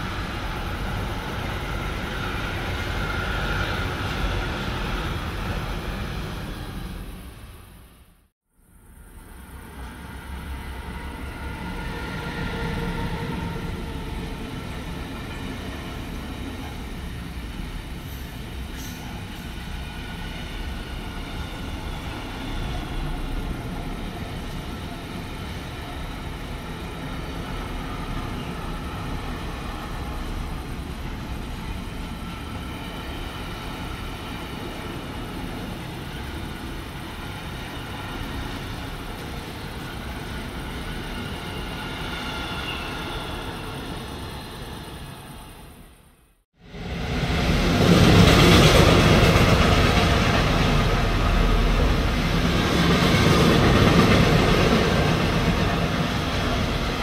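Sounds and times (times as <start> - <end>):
train wheels rumbling on rail: 0.0 - 8.2, 8.9 - 57.0.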